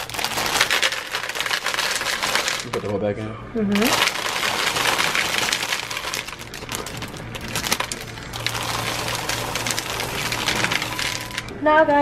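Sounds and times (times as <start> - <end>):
chocolate chips pouring into bowl: 0.0 - 3.0, 3.8 - 11.5.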